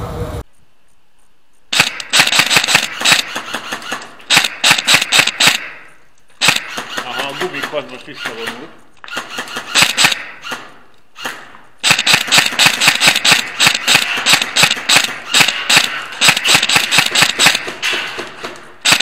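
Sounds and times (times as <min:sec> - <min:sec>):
airsoft gun rapid firing: 0:01.7 - 0:19.0.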